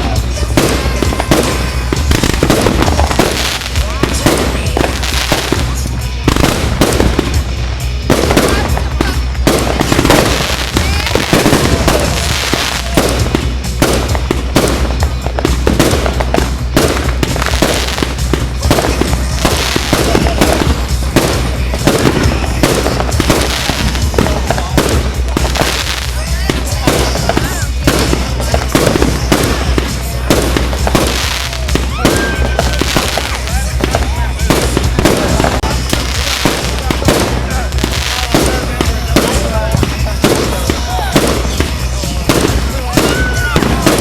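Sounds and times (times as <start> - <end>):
fireworks bangs and crackles: 0.0 - 44.0
music: 0.0 - 44.0.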